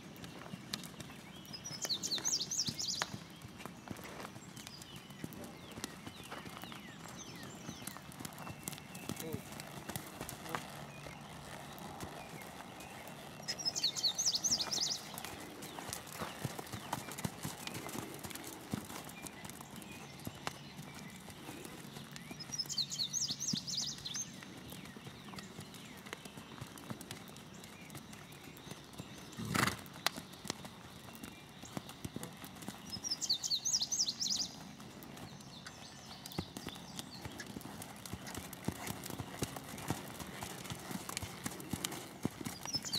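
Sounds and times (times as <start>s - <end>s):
hooves striking sand: 0.0s - 42.9s.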